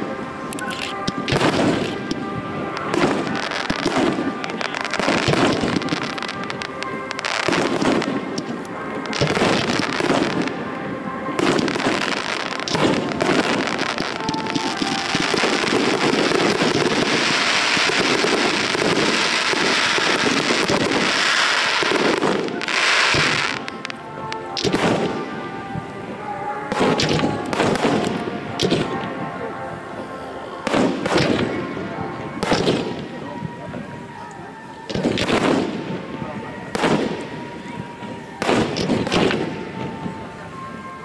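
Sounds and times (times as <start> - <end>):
fireworks bangs and crackles: 0.0 - 41.0
music playing: 0.0 - 41.0.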